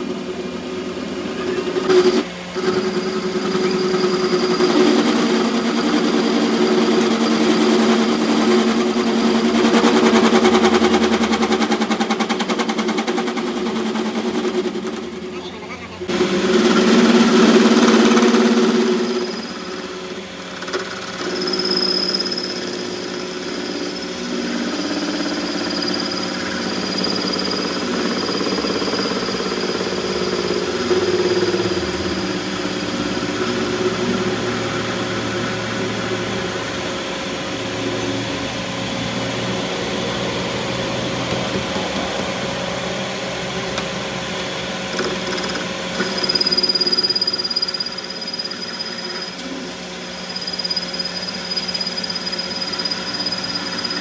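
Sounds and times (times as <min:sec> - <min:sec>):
high whine: 0:00.0 - 0:54.0
machine humming: 0:00.0 - 0:54.0.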